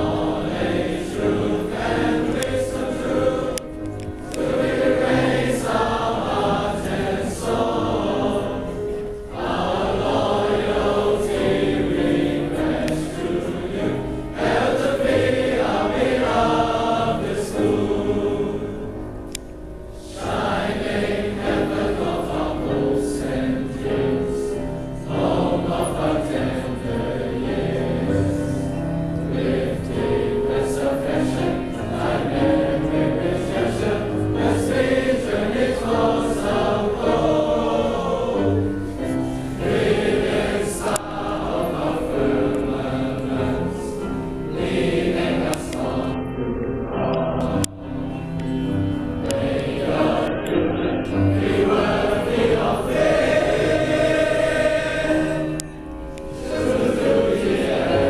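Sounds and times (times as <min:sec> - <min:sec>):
choir singing a hymn: 0:00.0 - 0:58.0
piano accompaniment: 0:00.0 - 0:58.0.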